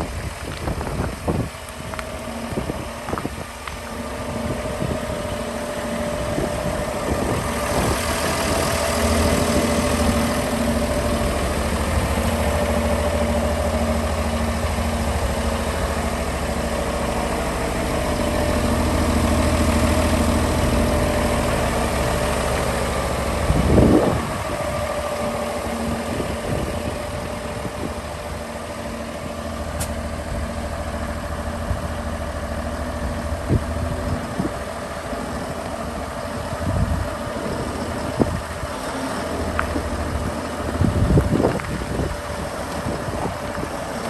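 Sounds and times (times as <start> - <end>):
tractor diesel engine idling: 0.0 - 44.0.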